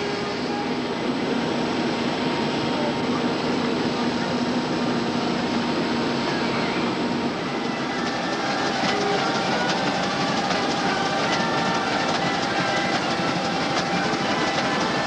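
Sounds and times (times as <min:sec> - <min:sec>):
steady hum: 0:00.0 - 0:15.0
machinery rapid clattering: 0:02.8 - 0:15.0.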